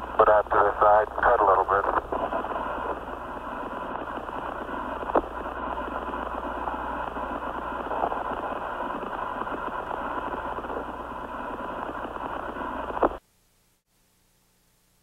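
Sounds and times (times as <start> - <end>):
radio static hiss: 0.0 - 13.2
radio click: 0.2 - 10.9, 11.6 - 13.2.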